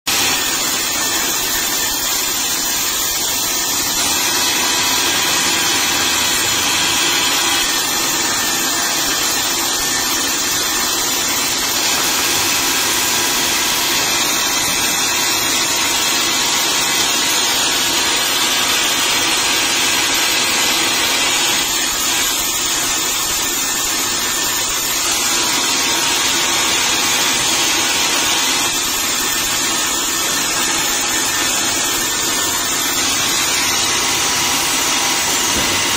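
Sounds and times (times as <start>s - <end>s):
band sawmill cutting a log: 0.0s - 35.9s.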